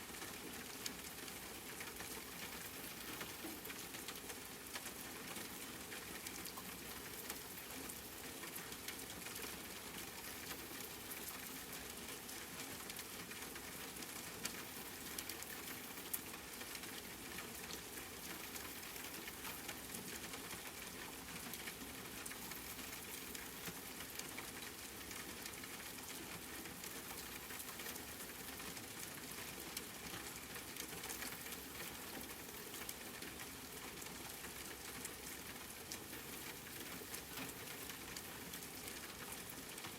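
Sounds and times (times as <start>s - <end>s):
steady rainfall: 0.0s - 39.9s
raindrop ticks: 0.1s - 39.9s.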